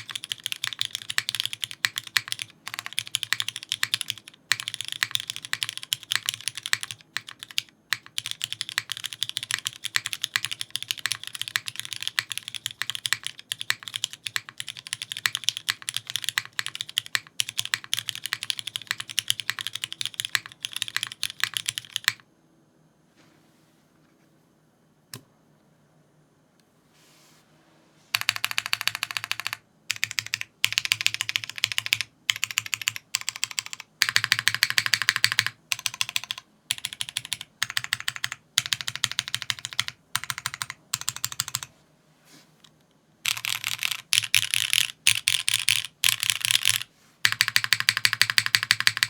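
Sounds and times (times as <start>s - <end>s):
fast mechanical keyboard typing: 0.0s - 22.2s, 28.1s - 41.7s, 43.2s - 49.0s.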